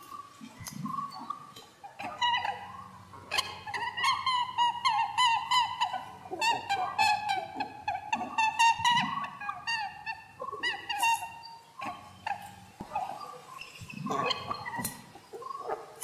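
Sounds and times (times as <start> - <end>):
high-pitched animal squeaks: 2.0 - 15.9.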